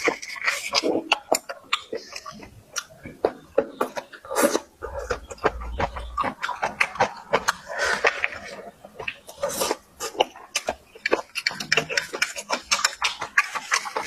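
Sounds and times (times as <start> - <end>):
chewing: 0.0 - 14.0
lip smacks and mouth clicks: 0.0 - 14.0
small crackles: 0.0 - 14.0.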